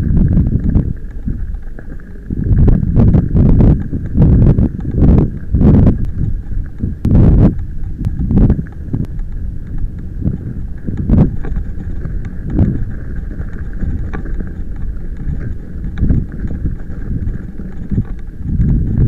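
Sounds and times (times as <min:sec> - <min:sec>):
bicycle tyres rumbling on gravel: 0:00.0 - 0:19.0
wheels knocking on stones: 0:00.0 - 0:19.0.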